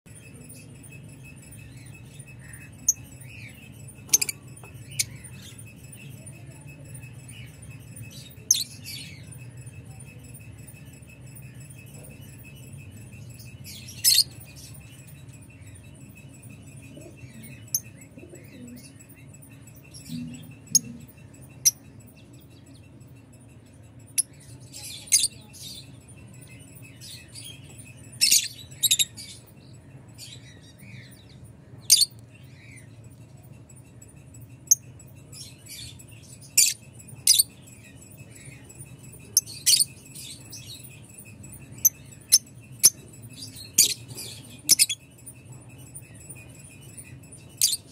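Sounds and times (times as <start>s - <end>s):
birds chirping high-pitched: 0.1s - 47.9s.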